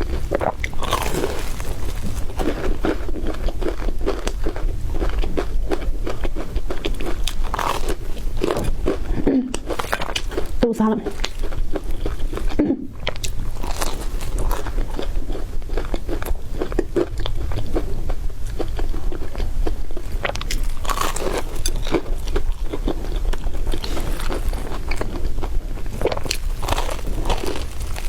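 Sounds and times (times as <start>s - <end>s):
chewing crispy bread: 0.0s - 28.0s.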